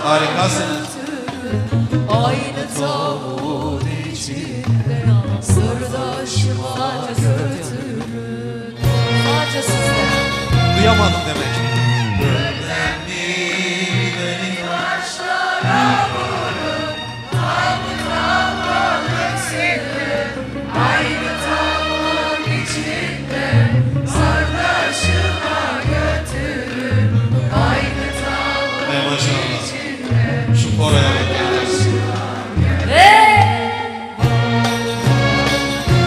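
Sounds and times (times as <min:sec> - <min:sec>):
live band music: 0:00.0 - 0:36.0.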